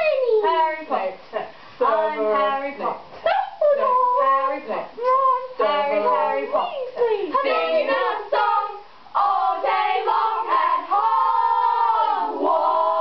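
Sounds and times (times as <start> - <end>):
girls singing a cappella: 0.0 - 13.0.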